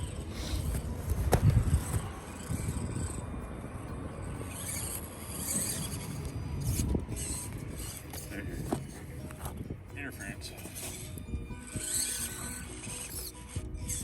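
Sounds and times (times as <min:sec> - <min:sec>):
small electric motors whirring: 0:00.0 - 0:14.0.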